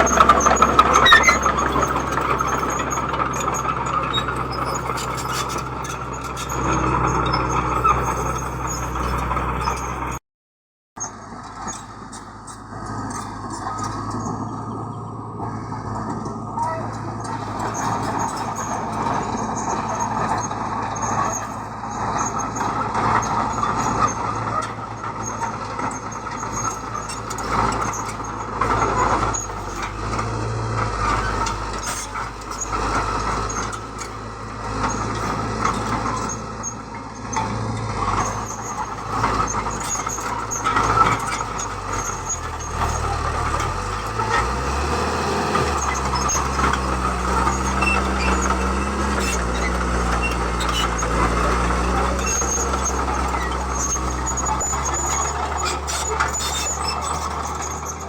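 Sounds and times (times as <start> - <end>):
diesel machinery engine hum: 0.0 - 10.2, 11.0 - 58.0.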